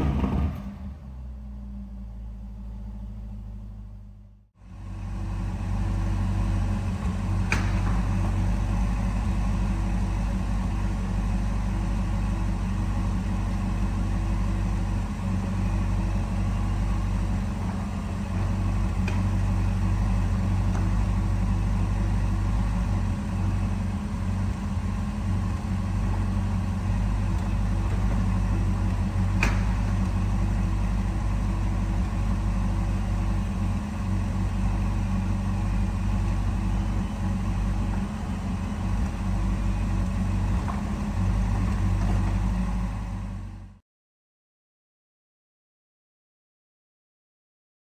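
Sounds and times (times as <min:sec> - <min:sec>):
car engine idling: 0:00.0 - 0:43.8.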